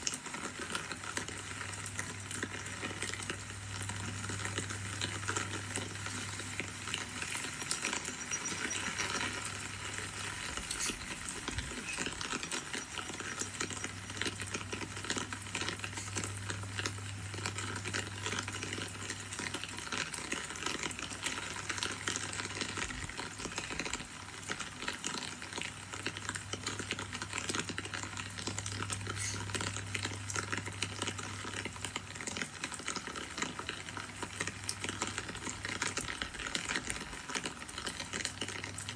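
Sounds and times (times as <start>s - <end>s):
low steady hum: 0.0s - 38.9s
rain falling: 0.0s - 38.9s.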